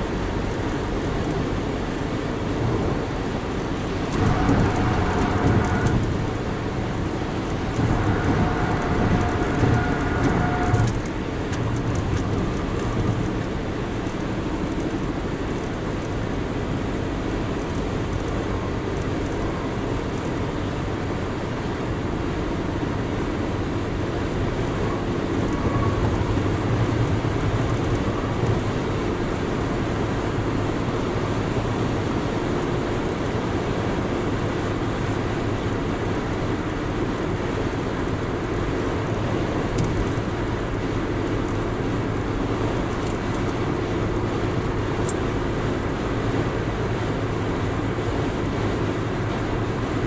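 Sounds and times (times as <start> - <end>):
low engine hum: 0.0 - 50.0
tyre road noise: 0.0 - 50.0.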